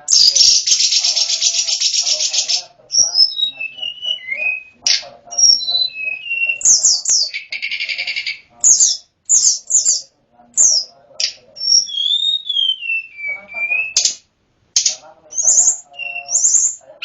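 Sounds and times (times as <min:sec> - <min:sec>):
bird singing whistles and rattles: 0:00.0 - 0:10.0, 0:10.6 - 0:14.2, 0:14.8 - 0:16.8.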